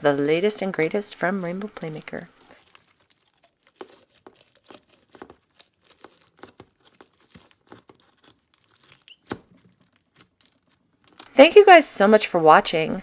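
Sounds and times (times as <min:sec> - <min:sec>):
slime squishing and crackling: 0:00.0 - 0:11.4.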